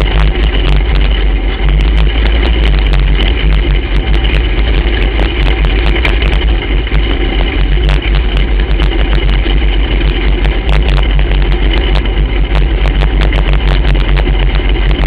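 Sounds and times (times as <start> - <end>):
kart engine running: 0.0 - 15.0.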